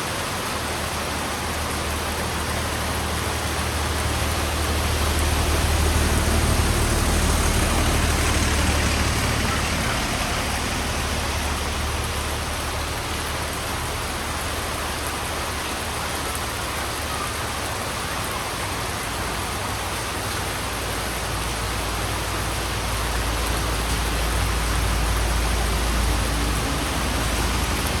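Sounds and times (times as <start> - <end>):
heavy rain on a road: 0.0 - 28.0.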